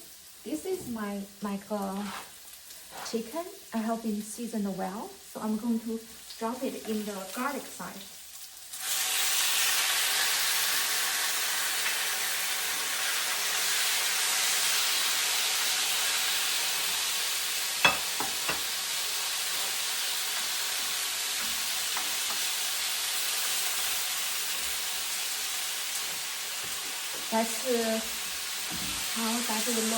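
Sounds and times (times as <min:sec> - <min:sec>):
chicken sizzling in hot oil: 0:00.0 - 0:29.9.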